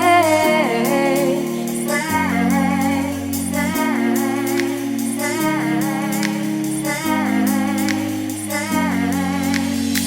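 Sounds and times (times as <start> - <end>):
pop music with held chords: 0.0 - 10.0.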